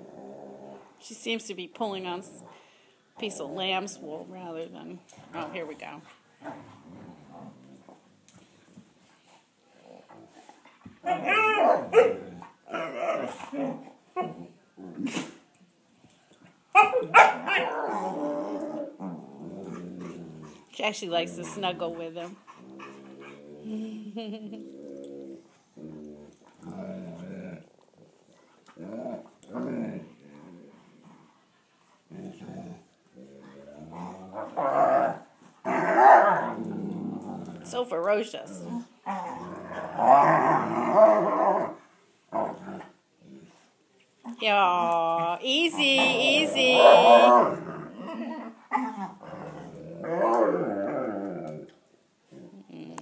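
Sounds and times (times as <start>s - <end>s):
dogs growling and barking: 0.0s - 1.0s, 5.1s - 9.1s, 9.7s - 15.5s, 16.7s - 37.8s, 38.4s - 44.4s, 45.2s - 53.0s.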